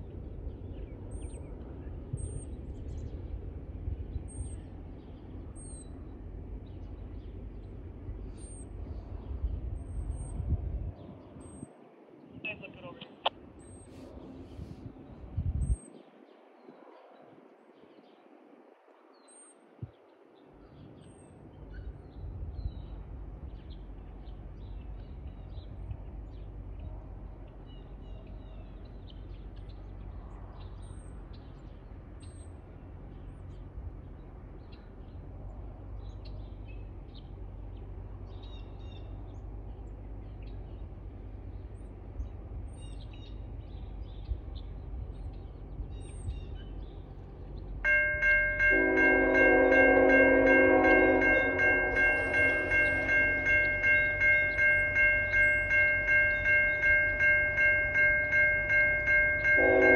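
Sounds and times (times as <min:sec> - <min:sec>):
diesel locomotive rumble: 0:00.0 - 0:11.7, 0:12.5 - 0:15.9, 0:20.5 - 0:59.9.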